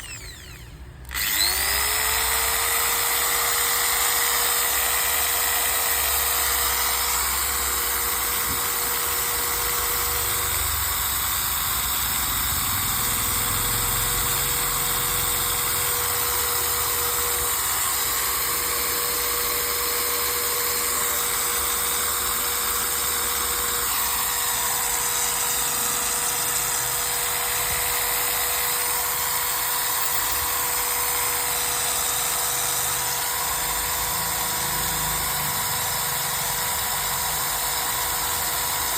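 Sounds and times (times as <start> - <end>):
electric drill running: 0.0 - 38.9.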